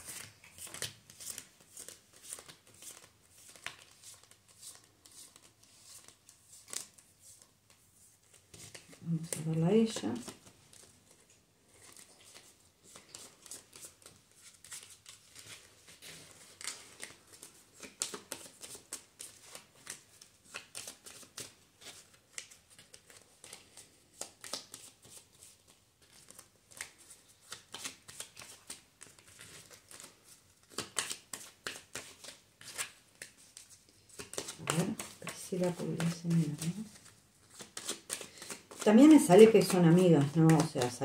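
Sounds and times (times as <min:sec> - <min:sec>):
cards being shuffled: 0:00.0 - 0:41.0.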